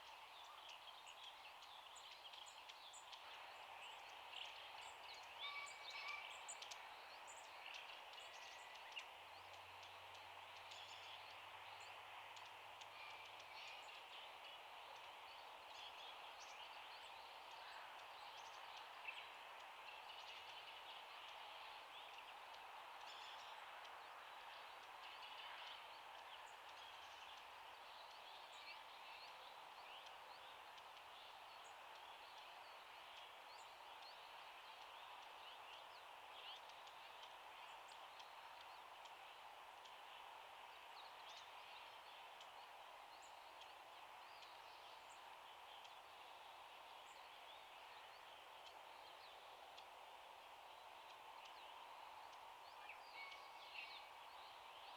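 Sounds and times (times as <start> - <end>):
soft outdoor hiss: 0.0 - 54.9.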